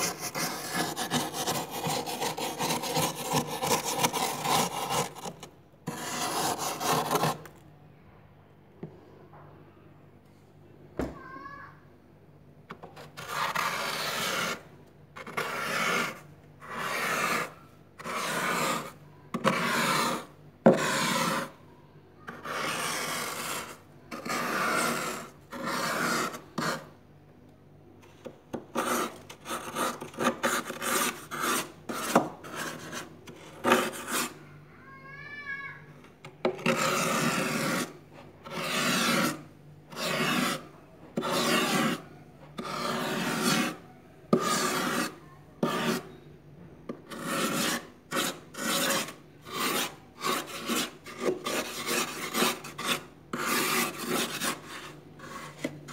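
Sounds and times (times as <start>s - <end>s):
spoon scraping frost: 0.0s - 7.6s, 13.0s - 21.6s, 22.3s - 27.0s, 28.1s - 34.4s, 36.5s - 46.2s, 47.0s - 55.9s.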